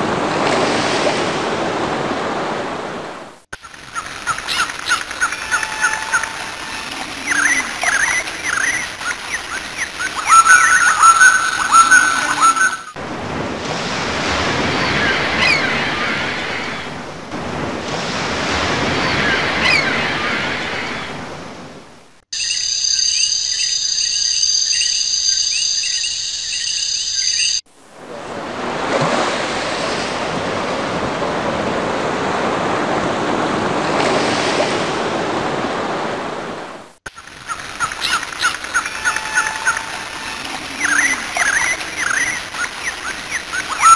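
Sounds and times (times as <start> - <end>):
surf waves washing in: 0.0 - 22.2, 27.7 - 43.9.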